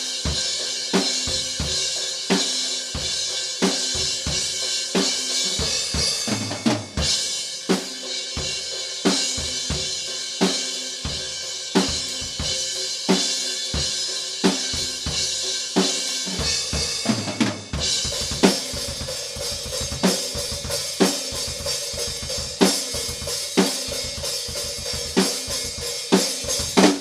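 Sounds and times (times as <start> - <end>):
drum kit metal groove: 0.0 - 27.0.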